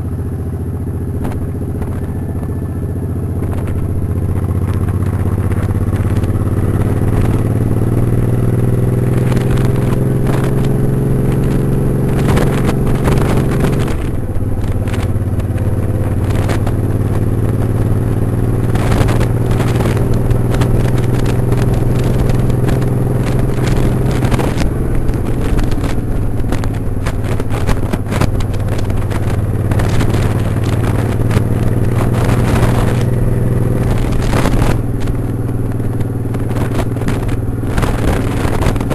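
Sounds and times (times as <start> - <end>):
motorcycle engine running: 0.0 - 38.9
rushes of wind noise: 0.0 - 38.9.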